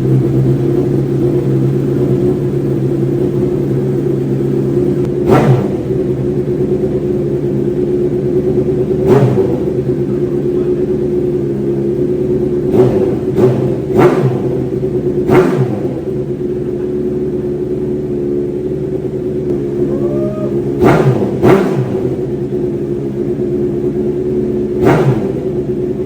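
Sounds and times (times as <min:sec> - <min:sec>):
motorcycle engine idling: 0:00.0 - 0:26.0
motorcycle throttle blips: 0:00.0 - 0:26.0.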